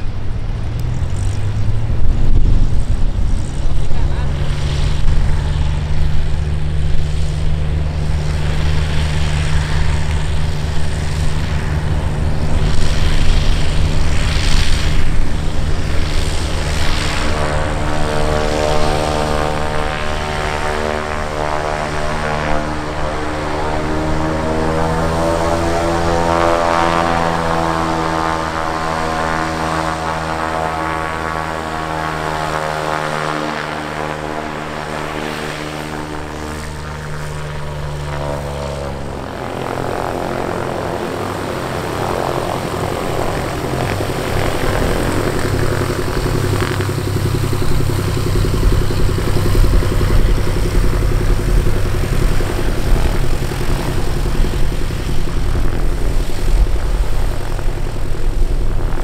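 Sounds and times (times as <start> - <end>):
propeller plane engine taxiing: 0.0 - 59.0.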